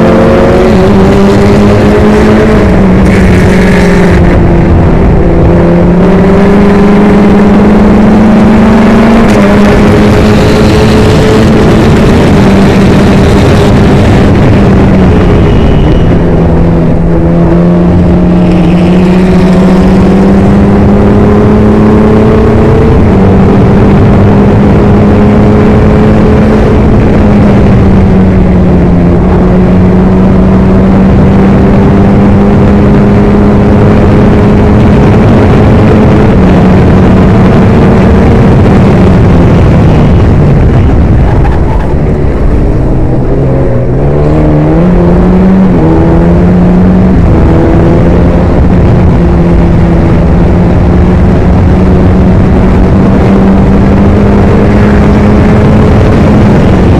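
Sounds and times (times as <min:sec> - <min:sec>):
racing car engine at high revs: 0:00.0 - 0:56.9.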